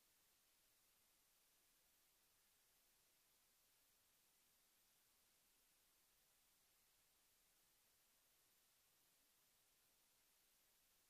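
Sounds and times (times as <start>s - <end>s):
faint hiss: 0.0s - 11.0s.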